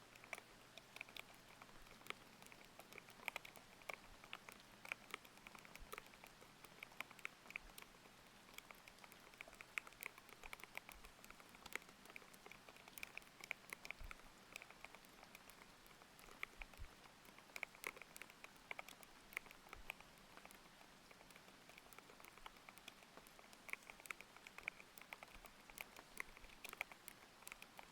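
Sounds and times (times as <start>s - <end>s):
faint rain: 0.0s - 27.9s.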